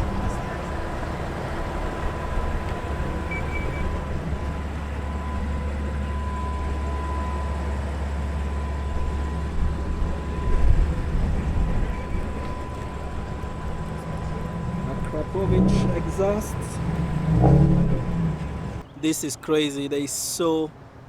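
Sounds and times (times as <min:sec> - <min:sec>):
car engine idling: 0:00.0 - 0:19.6.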